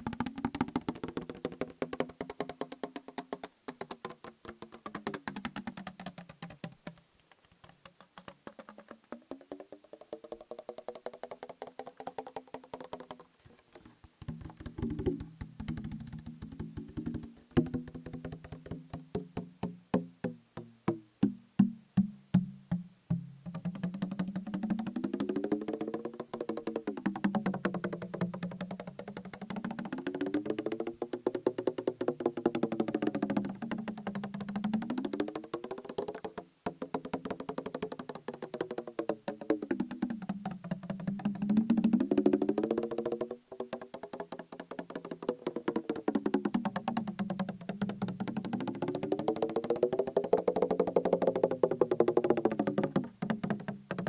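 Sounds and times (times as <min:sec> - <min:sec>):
fingertip tapping plastic bottle: 0:00.0 - 0:54.0.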